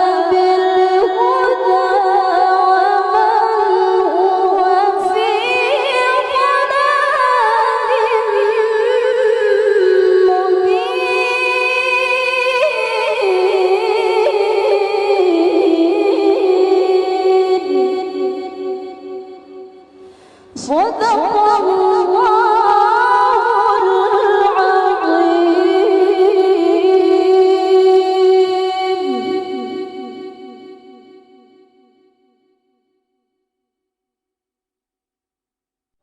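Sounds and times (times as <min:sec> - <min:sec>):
woman reciting melodically: 0:00.0 - 0:19.7, 0:20.5 - 0:31.0.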